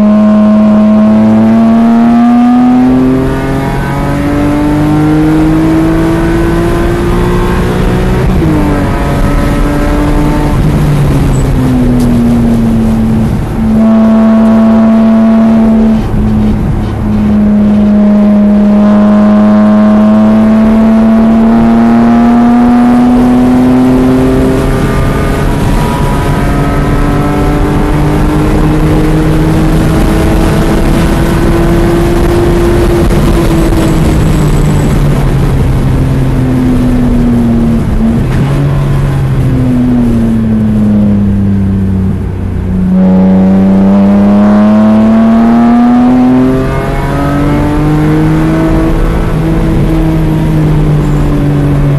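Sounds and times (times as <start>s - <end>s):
car engine accelerating: 0.0s - 51.9s
wind and tyre noise: 0.0s - 51.9s.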